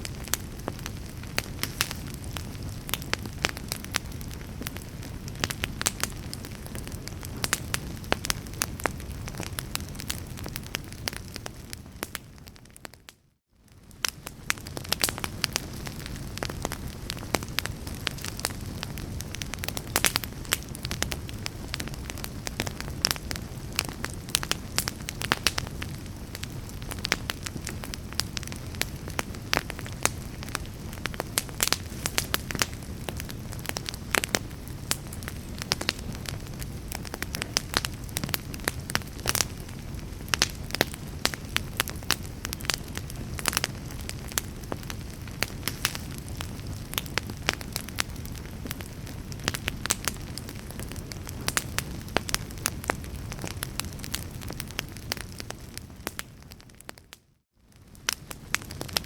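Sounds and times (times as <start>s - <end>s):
rumble of flames: 0.0s - 59.0s
wood crackling and popping: 0.0s - 59.0s.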